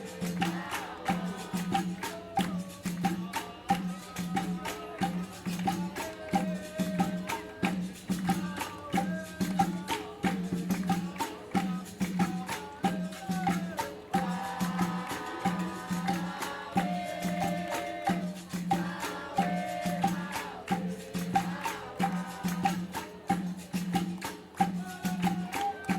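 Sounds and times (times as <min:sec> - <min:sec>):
percussion with jingling: 0:00.0 - 0:25.9
voices singing a chant: 0:00.0 - 0:25.9.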